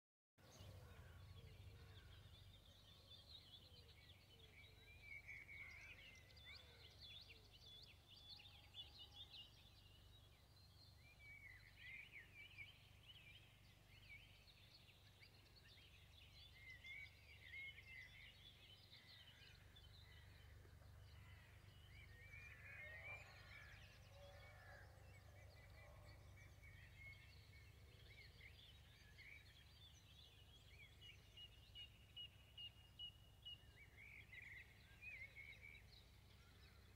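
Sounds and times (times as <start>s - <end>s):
birds chirping and trilling: 0.4s - 36.9s.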